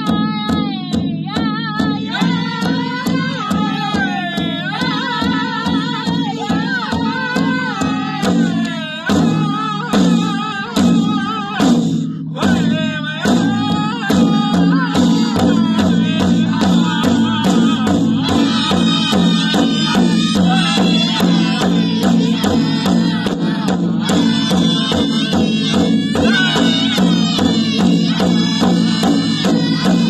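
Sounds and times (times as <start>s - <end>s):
group singing high wavering voices: 0.0s - 30.0s
hand drum beat: 0.0s - 30.0s.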